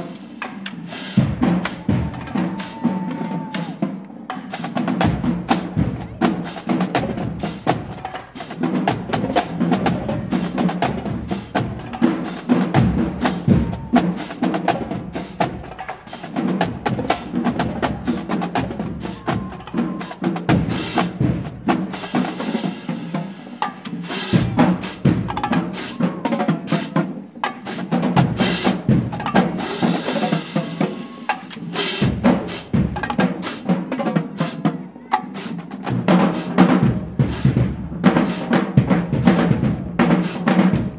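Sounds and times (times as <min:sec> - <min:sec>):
tenor and bass drums: 0:00.0 - 0:34.8, 0:35.4 - 0:40.9.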